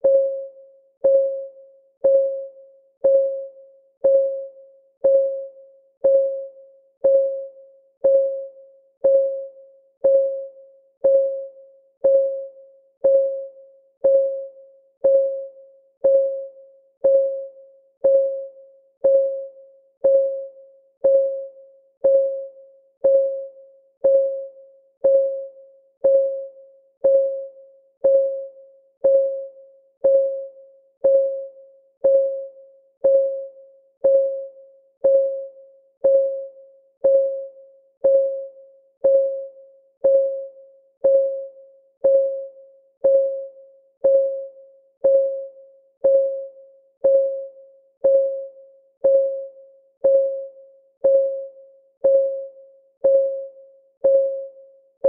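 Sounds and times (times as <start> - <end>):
timer clock ticking: 1.0 - 54.6.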